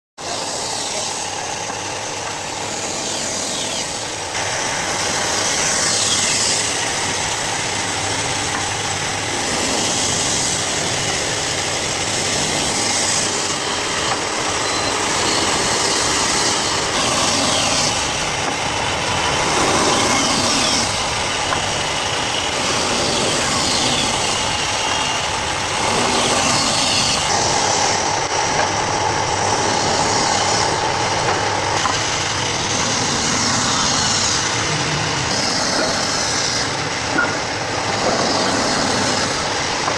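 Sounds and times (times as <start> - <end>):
saw machine cutting wood: 0.2 - 39.9.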